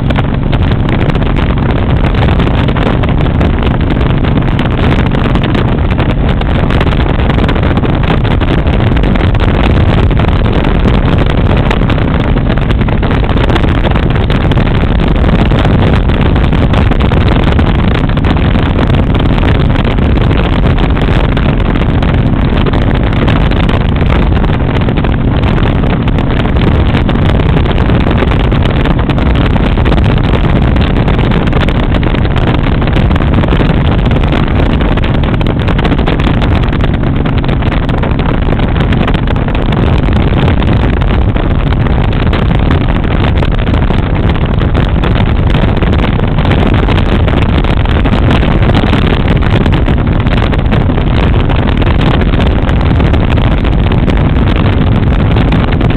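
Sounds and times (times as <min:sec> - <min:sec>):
motorcycle engine drone: 0:00.0 - 0:55.9
road noise: 0:00.0 - 0:55.9
wind rushing over microphone: 0:00.0 - 0:55.9.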